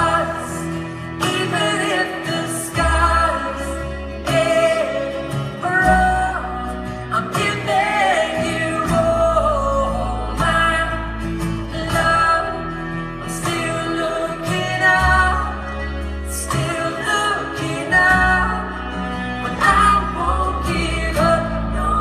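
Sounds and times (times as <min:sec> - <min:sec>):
live band music: 0:00.0 - 0:22.0
low bass notes: 0:00.0 - 0:22.0
people singing: 0:00.0 - 0:22.0.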